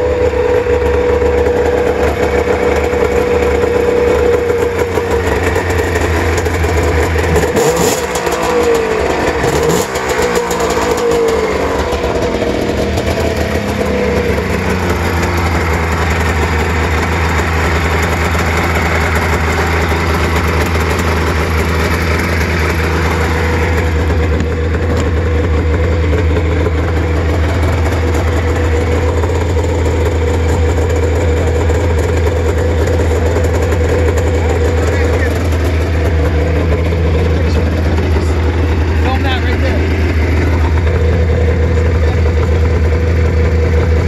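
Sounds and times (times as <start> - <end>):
snowmobile engine idling: 0.0 - 44.0.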